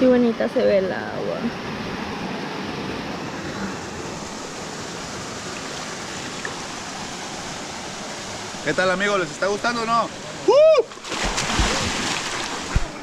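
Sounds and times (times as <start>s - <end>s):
river water rushing over rocks: 1.3s - 13.0s.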